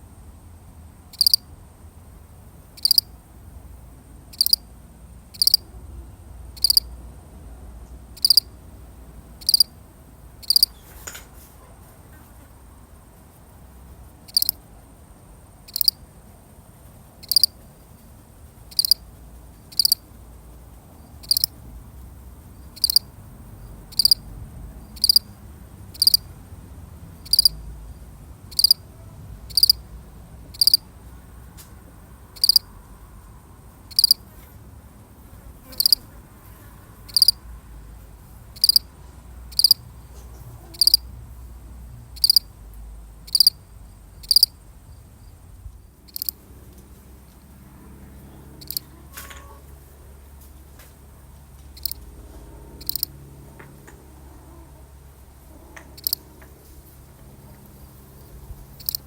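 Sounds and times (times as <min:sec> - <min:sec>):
cricket chirping: 0:00.0 - 0:11.3, 0:12.4 - 0:36.3, 0:36.9 - 0:50.0, 0:51.2 - 0:53.7, 0:55.7 - 0:56.4, 0:57.3 - 0:59.0.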